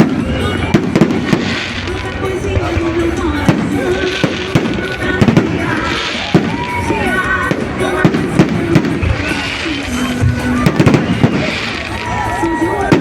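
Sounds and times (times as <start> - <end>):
festival music: 0.0 - 13.0
firecrackers banging: 0.0 - 13.0.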